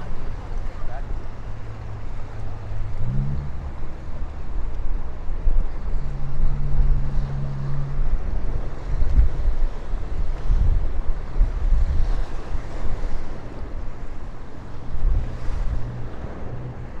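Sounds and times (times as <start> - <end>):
engine drone: 0.0 - 17.0
wind buffeting microphone: 0.0 - 17.0.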